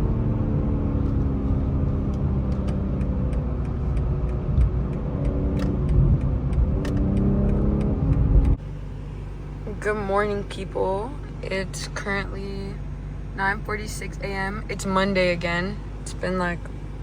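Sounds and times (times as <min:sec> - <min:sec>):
car engine running hard: 0:00.0 - 0:17.0
road rumble: 0:00.0 - 0:17.0.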